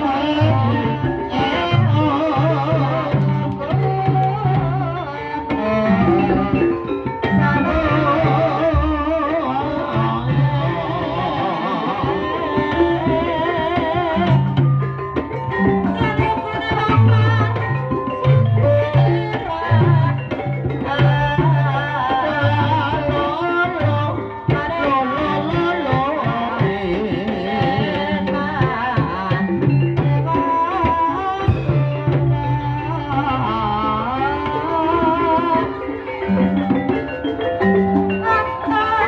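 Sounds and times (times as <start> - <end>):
hand drum patterns: 0.0 - 39.0
metallophones and gongs: 0.0 - 39.0
person singing wavering: 0.0 - 39.0.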